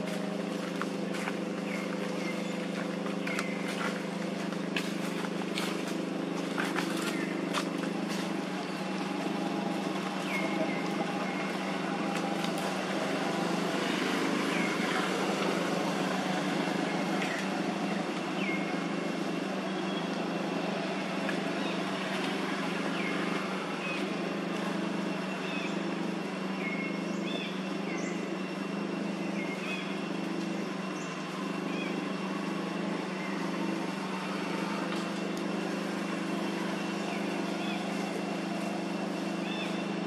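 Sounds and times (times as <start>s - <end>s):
low mechanical drone: 0.0s - 40.0s.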